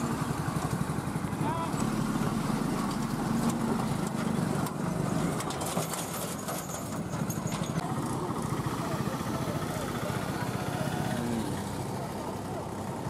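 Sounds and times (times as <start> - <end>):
truck diesel engine driving past: 0.0 - 5.4, 6.8 - 13.0.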